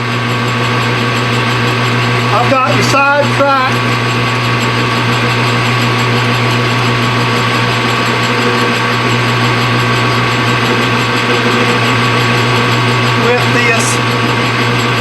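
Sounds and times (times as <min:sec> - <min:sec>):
machine humming and whirring: 0:00.0 - 0:15.0.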